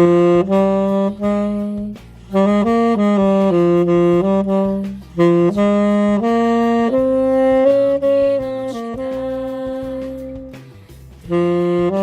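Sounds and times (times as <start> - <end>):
tenor saxophone melody: 0.0 - 12.0.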